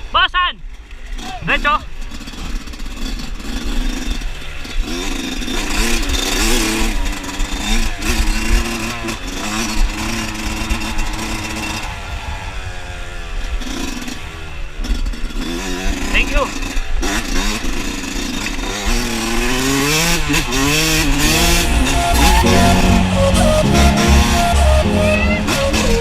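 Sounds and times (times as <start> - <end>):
dirt bike engine revving: 1.8 - 26.0.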